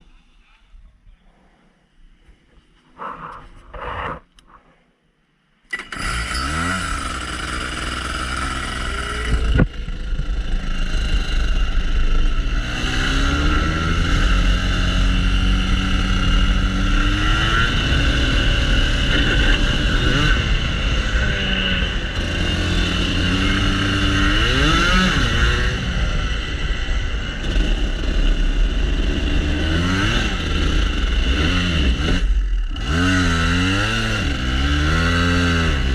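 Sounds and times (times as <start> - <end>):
kart engine revving: 5.7 - 35.9.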